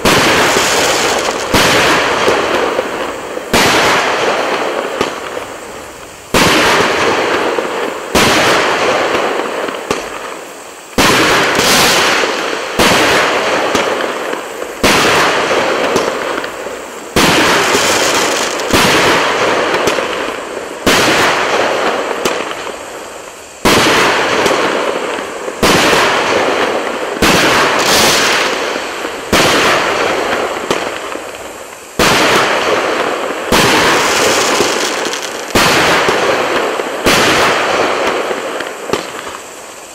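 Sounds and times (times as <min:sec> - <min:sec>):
firework bangs with crackle: 0:00.0 - 0:39.9.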